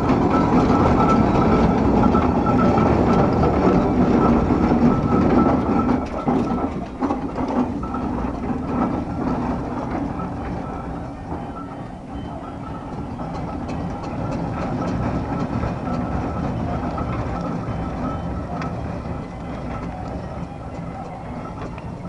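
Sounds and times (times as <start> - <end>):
steam traction engine clattering: 0.0 - 22.0.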